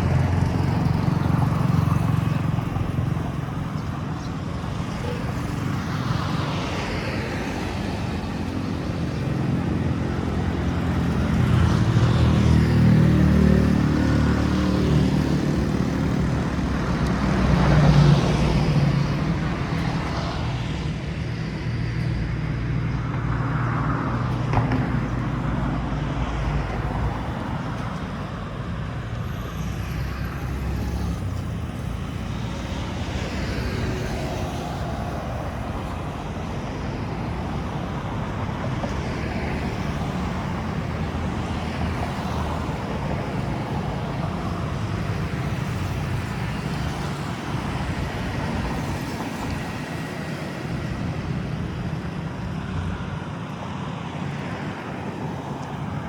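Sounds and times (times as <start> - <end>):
vehicles passing by: 0.0 - 56.0.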